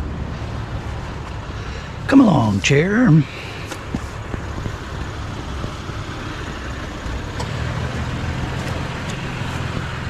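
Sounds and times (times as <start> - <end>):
outdoor noise: 0.0 - 10.0
vehicle engine running: 0.0 - 10.0.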